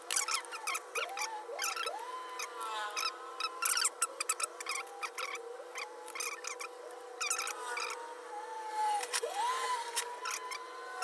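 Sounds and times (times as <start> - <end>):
faint steady hum: 0.0 - 11.0
thin wavering tone: 0.0 - 11.0.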